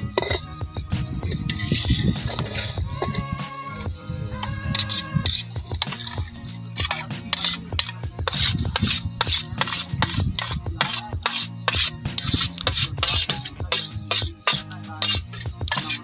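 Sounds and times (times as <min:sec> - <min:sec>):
lentils scraped across steel tray: 0:01.4 - 0:16.0.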